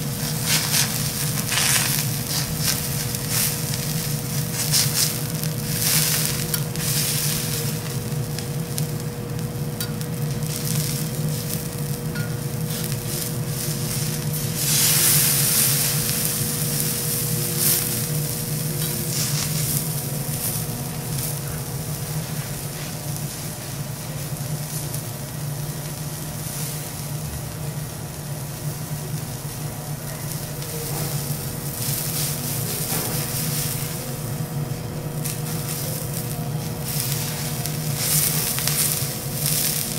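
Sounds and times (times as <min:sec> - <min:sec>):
steady low hum: 0:00.0 - 0:39.9
steak sizzling on a griddle: 0:00.0 - 0:39.9.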